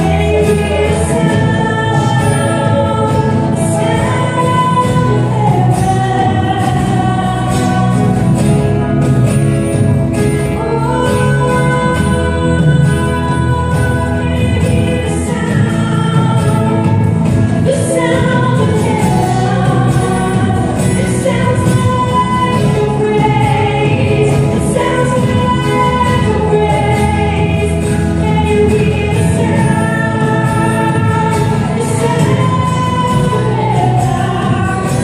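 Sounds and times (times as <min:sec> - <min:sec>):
instrumental backing: 0:00.0 - 0:35.0.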